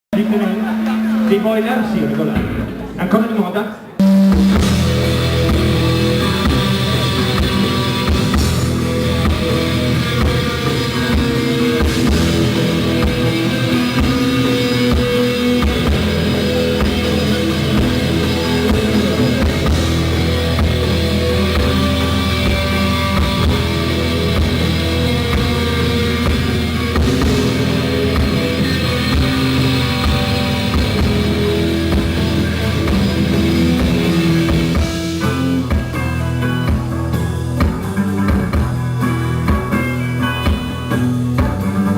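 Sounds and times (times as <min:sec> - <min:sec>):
rock band playing live: 0:00.2 - 0:03.0, 0:04.0 - 0:41.9.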